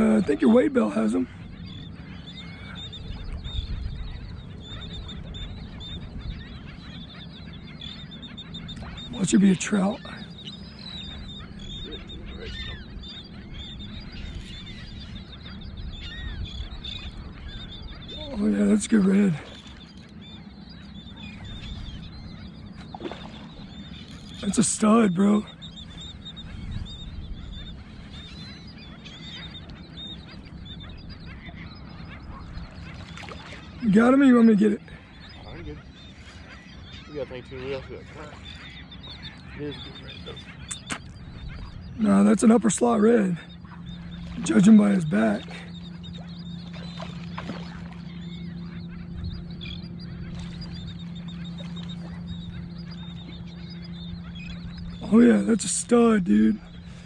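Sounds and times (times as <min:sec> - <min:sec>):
birds chirping: 0:00.0 - 0:57.0
steady low rumble: 0:00.0 - 0:57.0.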